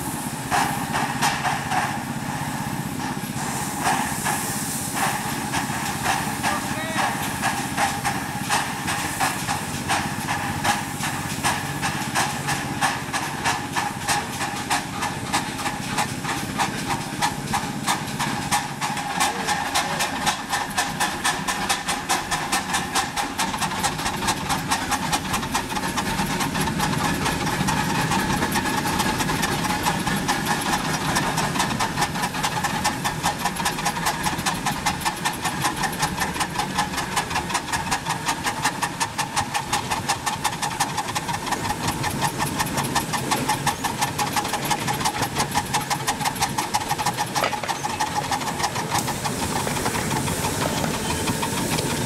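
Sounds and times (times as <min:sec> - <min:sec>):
steam hissing: 0:00.0 - 0:52.0
steam locomotives chuffing: 0:00.0 - 0:52.0.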